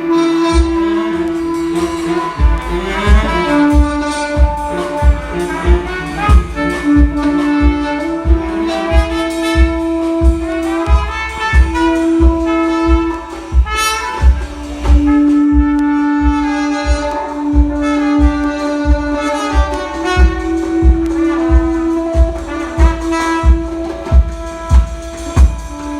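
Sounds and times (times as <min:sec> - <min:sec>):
low drum beat: 0:00.0 - 0:25.9
saxophone-like horn melody: 0:00.0 - 0:25.9.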